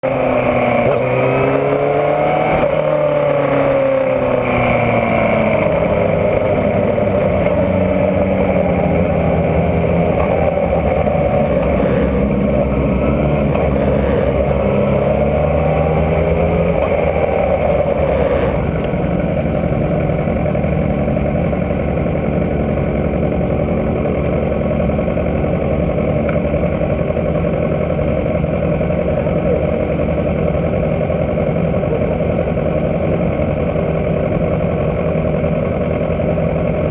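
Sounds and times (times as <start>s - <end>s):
racing motorcycle engines revving: 0.0s - 36.9s.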